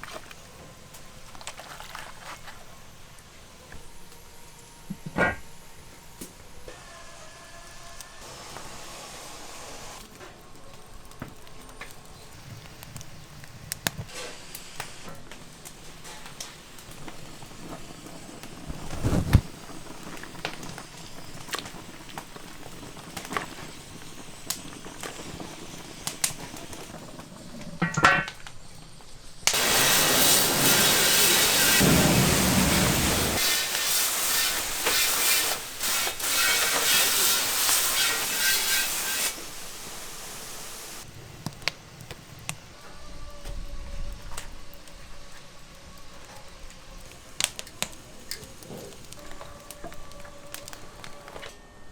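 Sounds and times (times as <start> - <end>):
loud hiss: 2.4 - 10.1, 12.2 - 27.4, 28.5 - 49.2.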